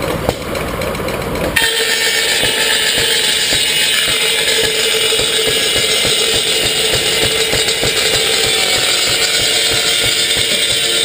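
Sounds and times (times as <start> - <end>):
circular saw blade spinning: 0.0 - 11.0
rapid low knocking: 0.0 - 11.0.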